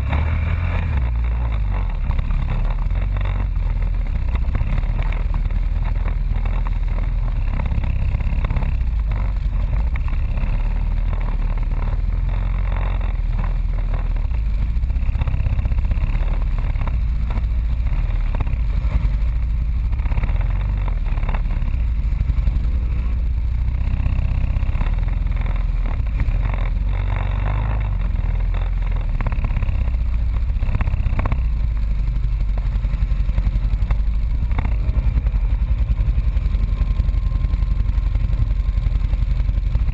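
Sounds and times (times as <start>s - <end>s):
atv engines under load: 0.0s - 39.9s
knocks and rattles of vehicles: 0.0s - 39.9s.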